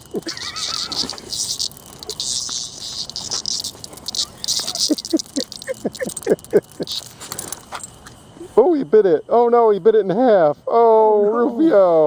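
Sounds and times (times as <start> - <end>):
cicada buzzing in harsh bursts: 0.0 - 12.0.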